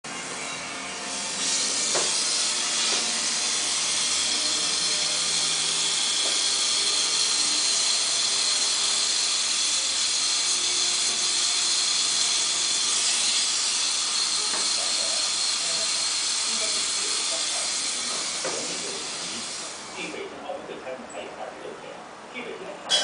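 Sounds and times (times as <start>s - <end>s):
gas torch flame hissing: 1.0s - 20.2s.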